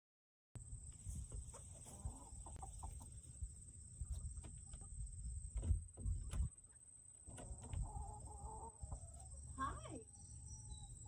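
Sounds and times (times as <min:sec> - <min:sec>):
hens clucking: 0:01.0 - 0:10.6.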